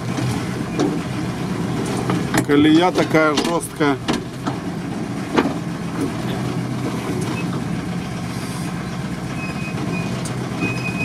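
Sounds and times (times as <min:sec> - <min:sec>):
van engine low drone: 0:00.0 - 0:11.0.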